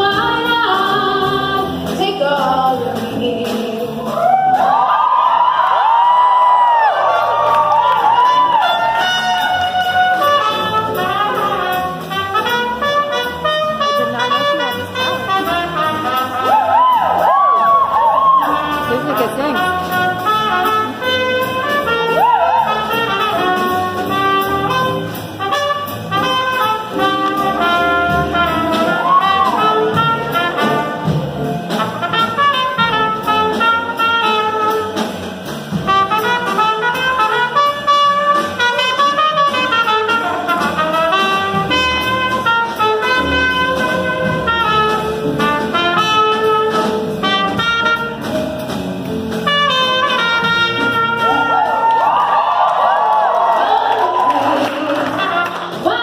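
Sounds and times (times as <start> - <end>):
jazz band: 0.0 - 56.0
trumpet lead: 5.0 - 56.0.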